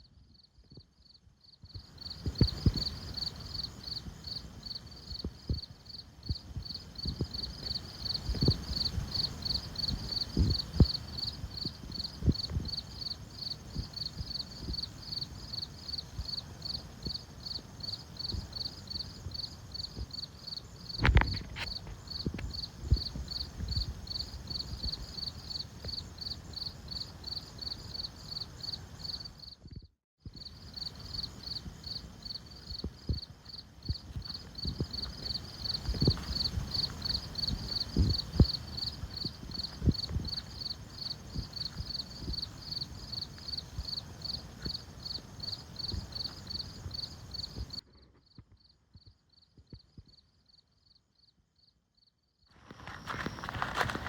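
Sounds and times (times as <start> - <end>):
insect chirping: 0.0 - 54.0.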